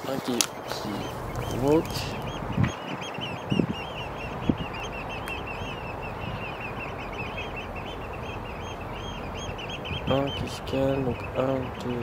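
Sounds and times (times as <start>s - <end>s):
oystercatchers piping calls: 0.0s - 12.0s
steady rushing background: 0.2s - 12.0s
dull low thumps: 0.5s - 12.0s.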